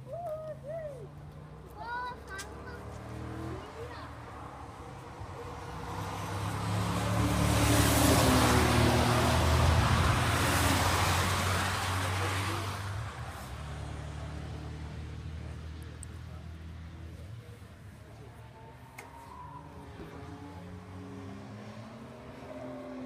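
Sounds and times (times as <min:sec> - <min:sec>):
engine drone from other cars: 0:00.0 - 0:23.0
racing car engine passing by: 0:01.0 - 0:23.0.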